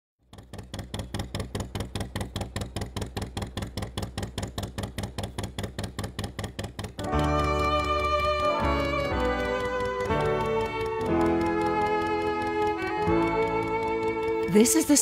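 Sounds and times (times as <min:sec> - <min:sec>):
diesel engine chugging: 0:00.2 - 0:15.0.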